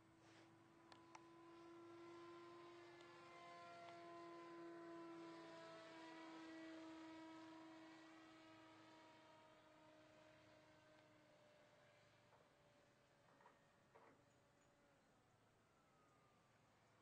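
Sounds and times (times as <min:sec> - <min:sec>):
electric motor and propeller whine: 0:00.0 - 0:14.2.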